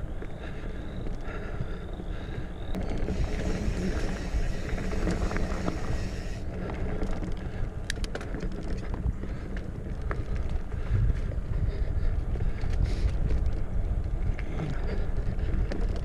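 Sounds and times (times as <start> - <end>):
bike clicks and rattles: 0.0 - 16.0
bike tyres rumbling on dirt: 0.0 - 16.0
wind buffeting microphone: 0.0 - 16.0.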